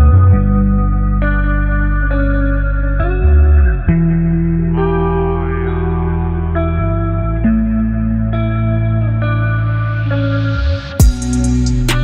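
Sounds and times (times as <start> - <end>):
deep bass: 0.0 - 12.0.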